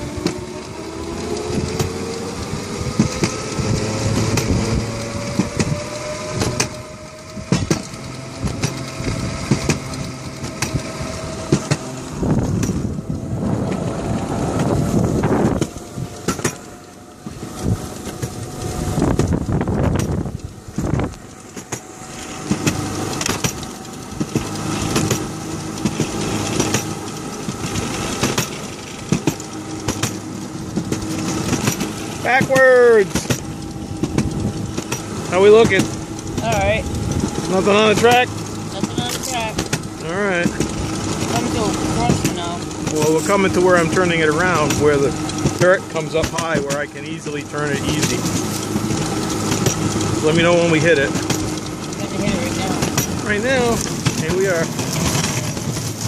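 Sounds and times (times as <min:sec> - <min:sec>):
electric motor whine: 0:00.0 - 0:56.0
rushing noise: 0:00.0 - 0:56.0
wheels clicking and knocking on rails: 0:00.0 - 0:56.0.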